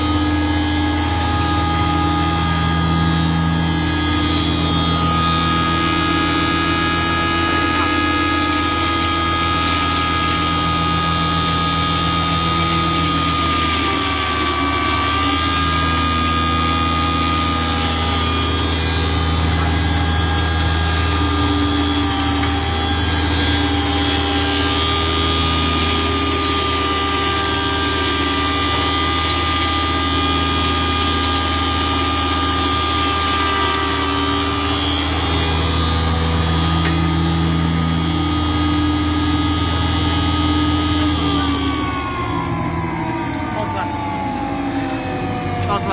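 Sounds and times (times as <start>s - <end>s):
grinder motor hum and whine: 0.0s - 45.9s.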